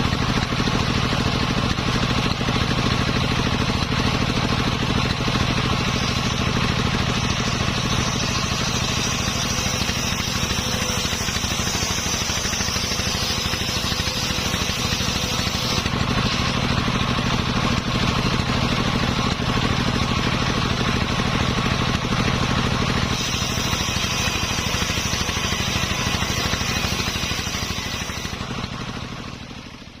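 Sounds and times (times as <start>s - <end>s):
sawmill engine running: 0.0s - 30.0s.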